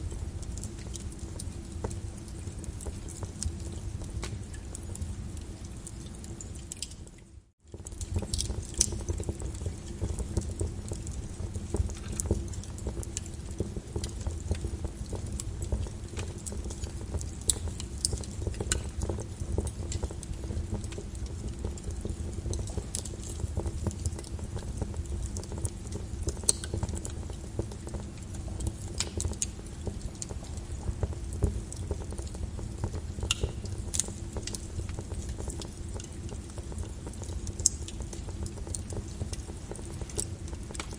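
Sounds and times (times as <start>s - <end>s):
lava crackling and popping: 0.0s - 40.9s.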